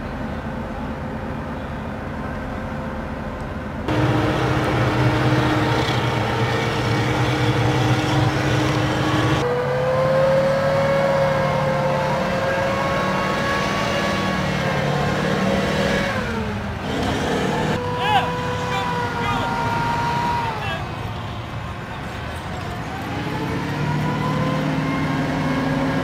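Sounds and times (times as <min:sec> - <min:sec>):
tracked vehicle engines droning: 0:00.0 - 0:26.0.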